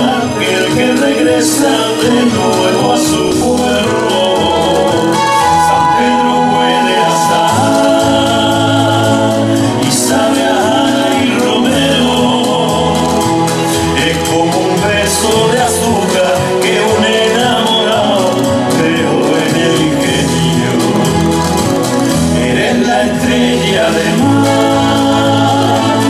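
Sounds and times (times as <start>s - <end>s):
instrumental accompaniment with bass: 0.0s - 26.0s
two men singing: 0.0s - 26.0s.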